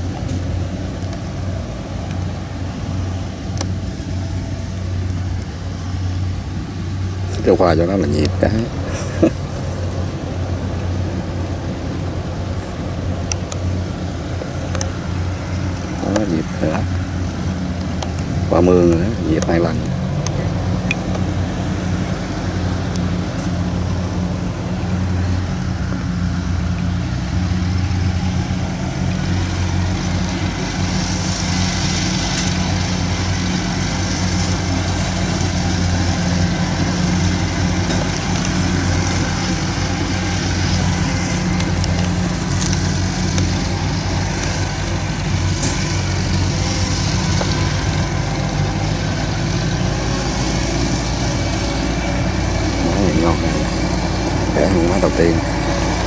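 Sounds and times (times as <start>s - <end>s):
tractor engine humming: 0.0s - 56.0s.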